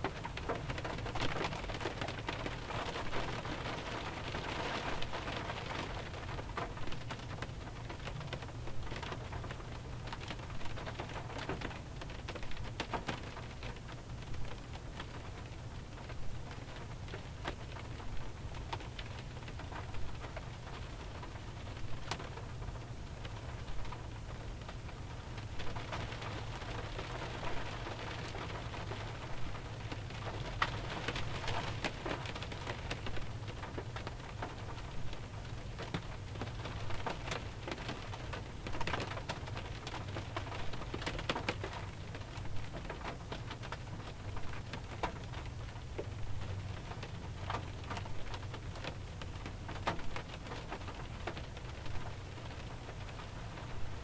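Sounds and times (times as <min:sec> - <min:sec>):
rain pattering on a car: 0:00.0 - 0:54.0.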